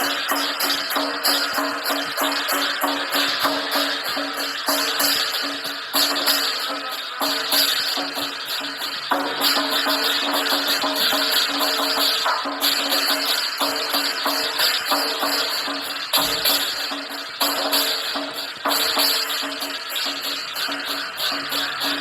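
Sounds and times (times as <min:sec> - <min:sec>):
drums and cymbals playing: 0:00.0 - 0:22.0
steady ringing tones: 0:00.0 - 0:22.0.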